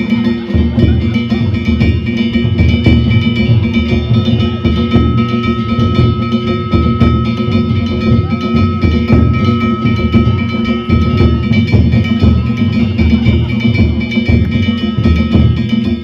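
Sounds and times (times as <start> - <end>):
large drum beating: 0.0 - 16.0
small hand gongs ringing: 0.0 - 16.0.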